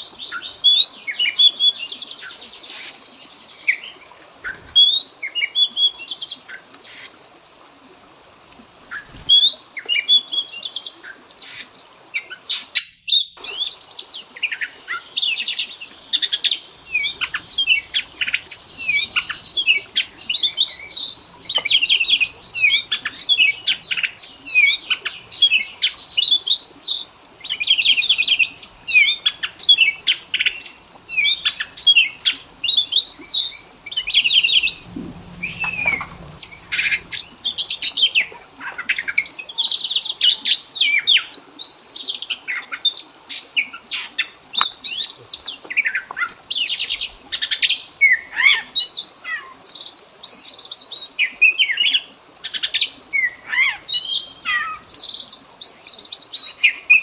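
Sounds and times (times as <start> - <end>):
bird singing varied song: 0.0 - 7.6, 8.8 - 57.0.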